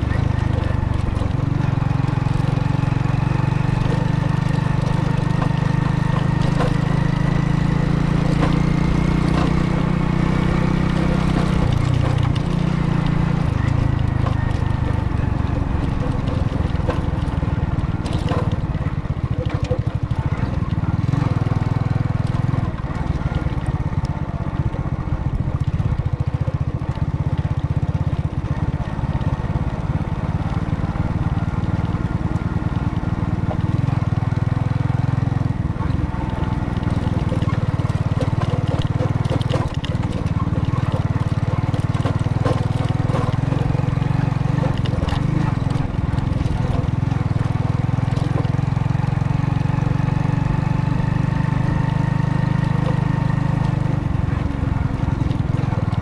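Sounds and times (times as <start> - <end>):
car engine: 0.0 - 56.0
road noise: 0.0 - 56.0.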